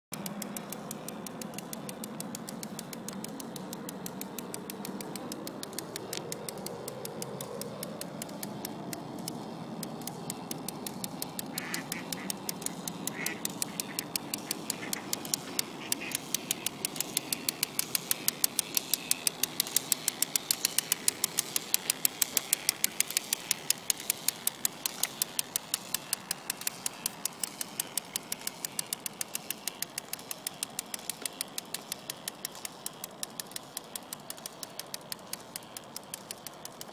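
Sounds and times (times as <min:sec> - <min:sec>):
even gear clicking: 0:00.1 - 0:36.9
low motor hum: 0:00.1 - 0:36.9.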